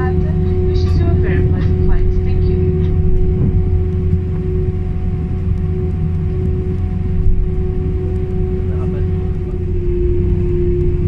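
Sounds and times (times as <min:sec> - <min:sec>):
aircraft engines rumbling: 0:00.0 - 0:11.0.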